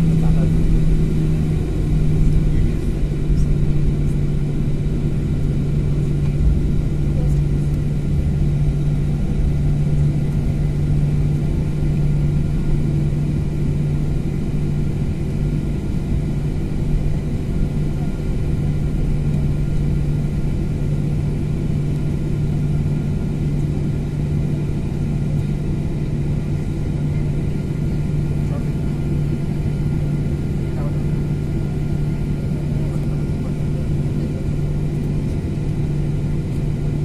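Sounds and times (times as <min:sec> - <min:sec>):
jet engines rumbling in cabin: 0:00.0 - 0:37.0.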